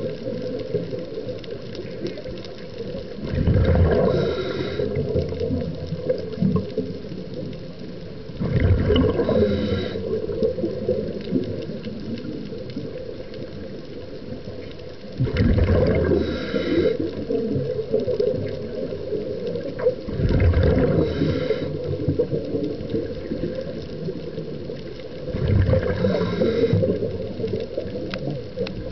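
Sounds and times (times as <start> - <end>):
low wash of water: 0.0 - 28.9
regulator bubbles gurgling underwater: 0.0 - 28.9.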